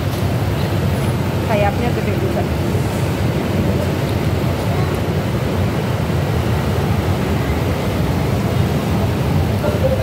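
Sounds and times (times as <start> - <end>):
low rumble of road traffic: 0.0 - 10.0.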